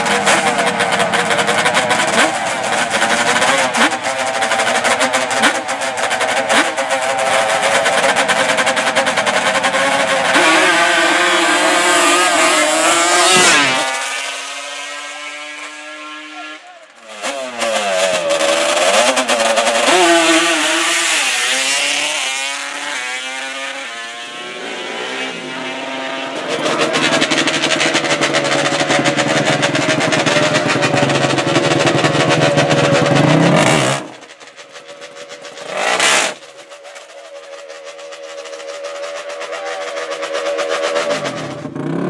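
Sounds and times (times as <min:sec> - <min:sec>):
atv engines revving: 0:00.0 - 0:42.0.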